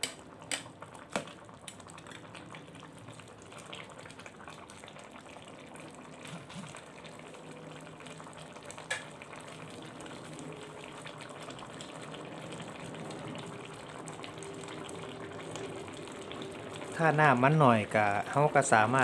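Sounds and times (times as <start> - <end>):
curry simmering and bubbling: 0.0 - 19.0.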